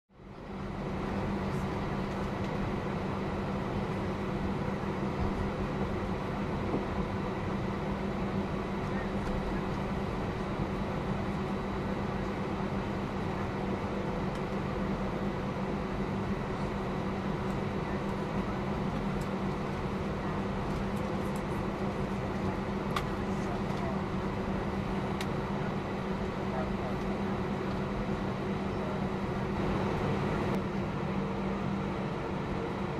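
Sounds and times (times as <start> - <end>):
jet engine running in cabin: 0.1 - 32.9.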